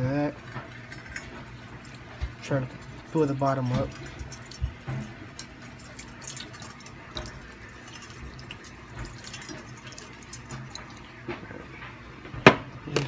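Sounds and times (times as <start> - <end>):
sauce dripping into a bowl: 0.3 - 11.1.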